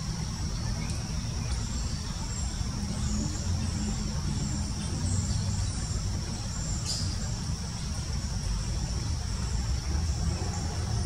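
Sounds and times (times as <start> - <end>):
distant road traffic rumble: 0.0 - 11.0
high insect drone: 0.0 - 11.0.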